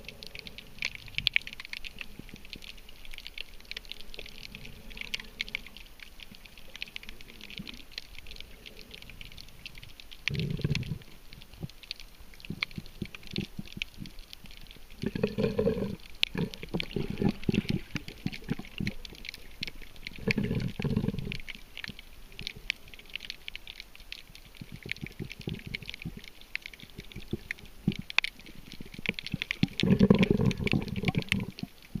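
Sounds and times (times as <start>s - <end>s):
underwater clicks crackling: 0.0s - 32.0s.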